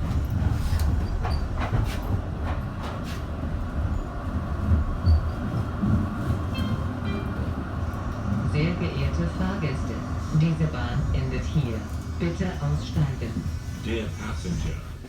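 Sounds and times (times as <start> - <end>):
tram rumbling on track: 0.0 - 15.0.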